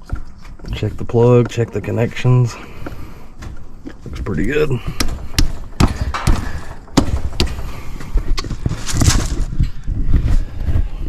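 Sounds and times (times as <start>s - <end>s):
hands handling wiring and parts: 0.0s - 9.8s.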